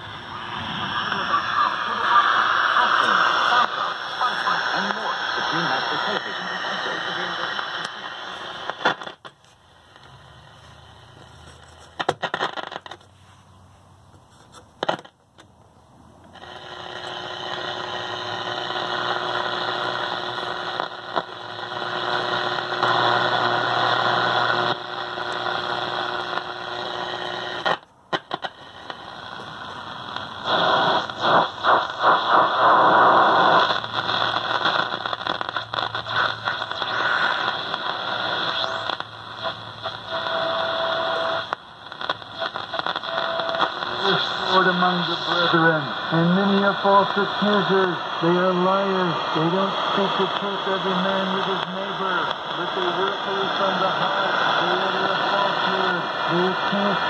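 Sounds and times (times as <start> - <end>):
radio static and crackle: 0.0 - 13.2, 14.0 - 15.5, 16.2 - 57.0.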